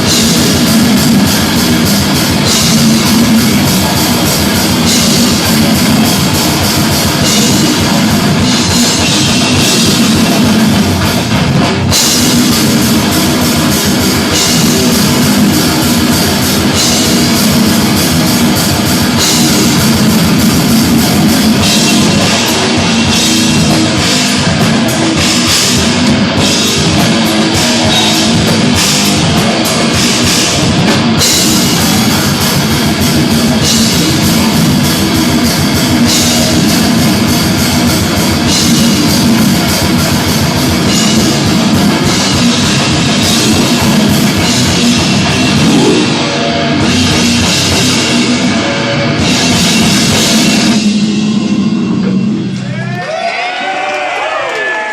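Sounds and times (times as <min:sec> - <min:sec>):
death metal band playing: 0:00.0 - 0:54.9.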